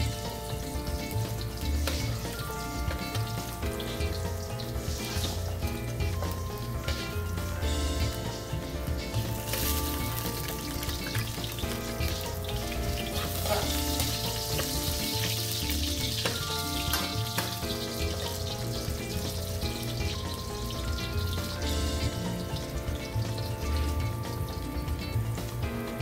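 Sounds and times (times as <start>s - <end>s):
background music: 0.0s - 26.0s
carrots sizzling in hot oil: 0.0s - 26.0s.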